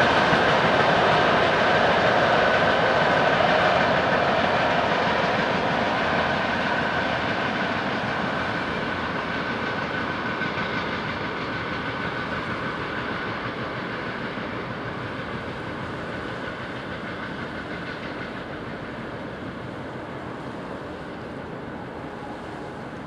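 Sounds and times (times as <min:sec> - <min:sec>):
train wheels rushing on rails: 0:00.0 - 0:23.0.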